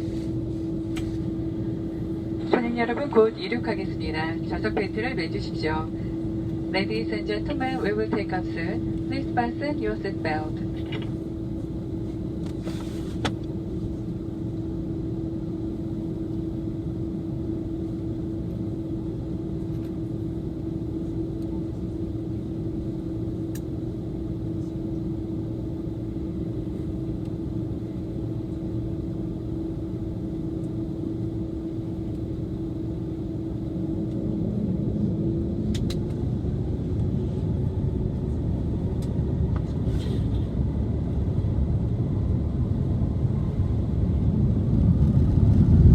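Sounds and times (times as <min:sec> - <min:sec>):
airplane cabin engine hum: 0:00.0 - 0:45.9.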